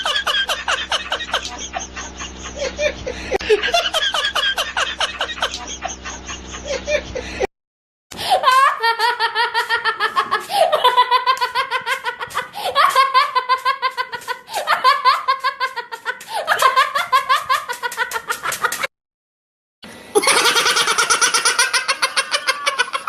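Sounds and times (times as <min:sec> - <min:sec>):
high-pitched laughter: 0:00.0 - 0:07.3, 0:08.3 - 0:18.9, 0:20.2 - 0:23.0.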